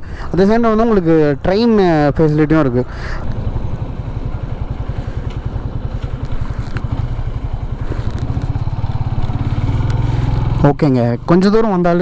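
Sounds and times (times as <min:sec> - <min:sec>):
motorcycle engine running: 0:00.5 - 0:12.0.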